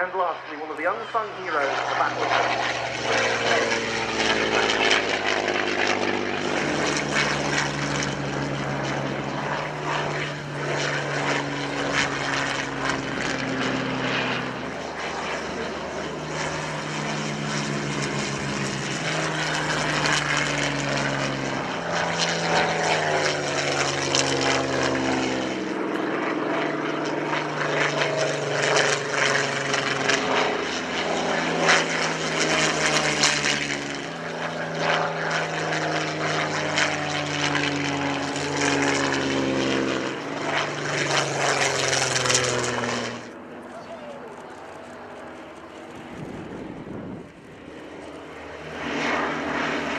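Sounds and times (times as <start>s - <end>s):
propeller aircraft flying past: 0.0s - 49.9s.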